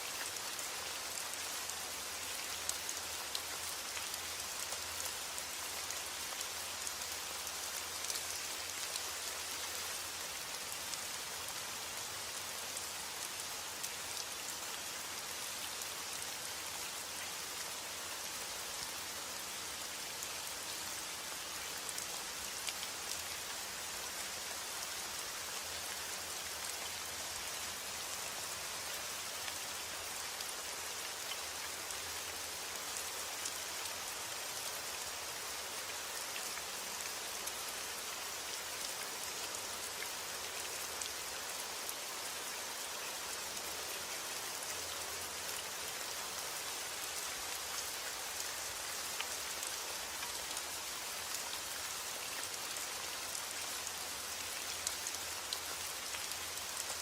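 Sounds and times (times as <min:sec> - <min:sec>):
heavy rain on a roof: 0:00.0 - 0:57.0.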